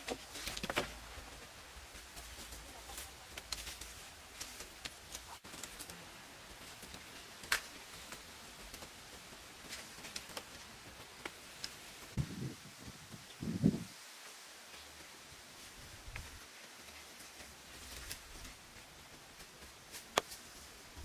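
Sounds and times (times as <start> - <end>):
low hiss: 0.0 - 21.0.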